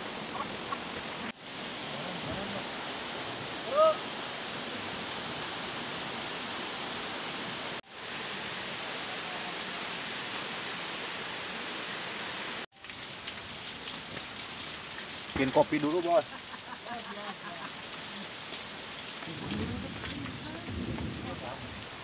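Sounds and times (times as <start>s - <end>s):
rain falling on foliage and stream: 0.0s - 22.0s.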